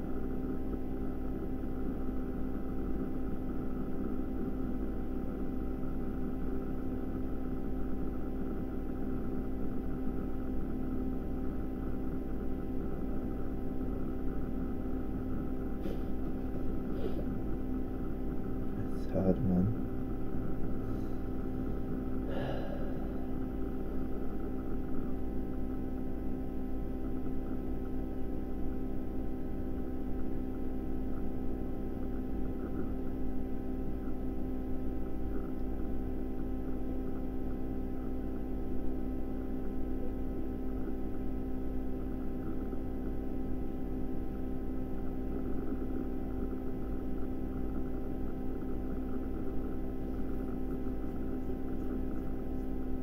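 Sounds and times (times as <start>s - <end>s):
droning hum of held tones: 0.0s - 53.0s.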